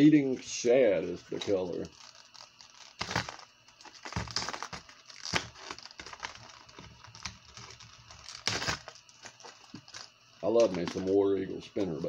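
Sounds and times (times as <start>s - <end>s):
plastic packaging crinkling: 0.9s - 12.0s.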